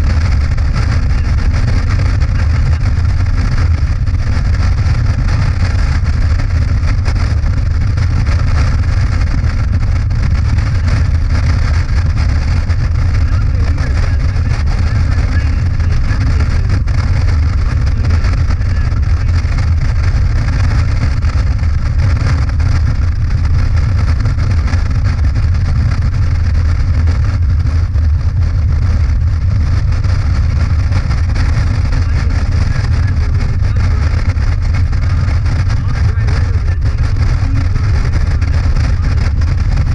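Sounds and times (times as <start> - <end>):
motorcycle engine droning: 0.0 - 39.9
wind and road noise: 0.0 - 39.9.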